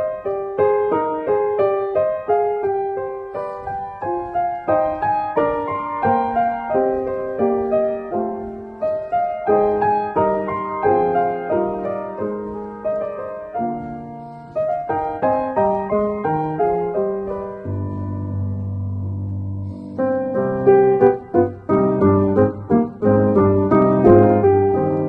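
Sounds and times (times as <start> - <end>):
piano playing: 0.0 - 25.0.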